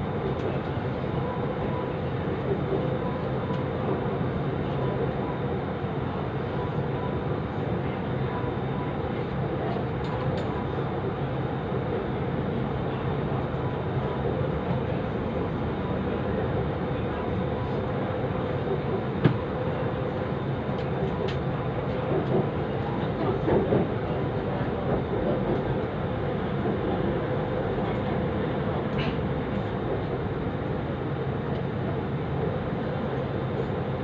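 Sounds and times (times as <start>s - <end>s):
constant hum: 0.0s - 34.0s
train wheels rumbling on rail: 0.0s - 34.0s.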